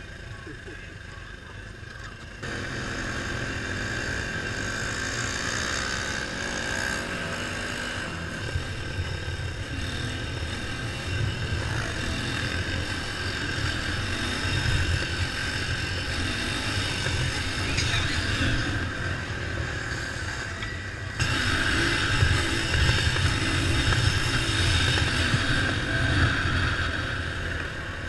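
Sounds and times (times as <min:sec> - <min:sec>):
mini bike engine running: 0:00.0 - 0:28.0.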